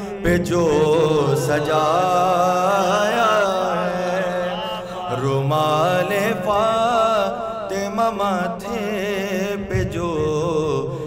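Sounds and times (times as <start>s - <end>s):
person singing devotional melody: 0.0s - 11.0s.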